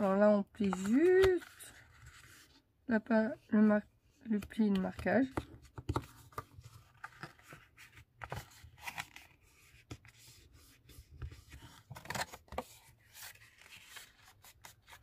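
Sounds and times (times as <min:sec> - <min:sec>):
cardstock rustling and scraping: 0:00.0 - 0:02.6, 0:04.3 - 0:15.0.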